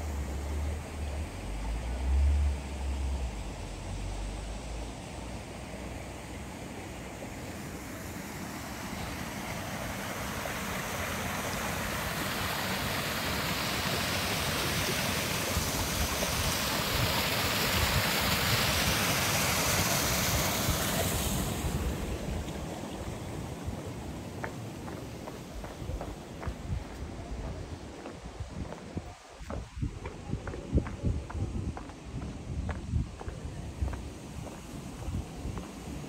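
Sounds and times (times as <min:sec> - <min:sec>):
water rushing over cascade: 0:00.0 - 0:36.0.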